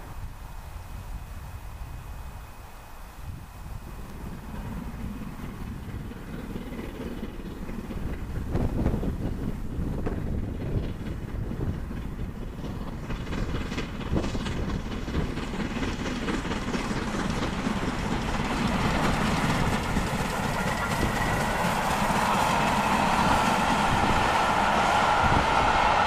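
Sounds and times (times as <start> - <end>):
steam train rumbling: 0.0 - 26.0.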